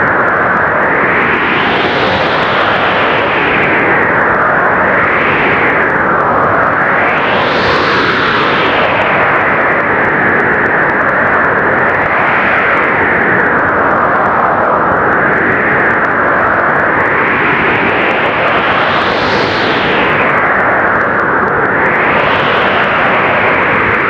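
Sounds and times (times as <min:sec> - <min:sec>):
blizzard wind blowing hard: 0:00.0 - 0:24.0.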